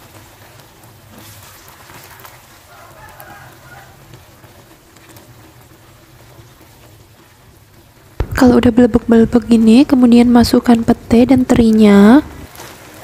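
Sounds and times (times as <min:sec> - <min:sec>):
spatula stirring: 0:00.0 - 0:13.0.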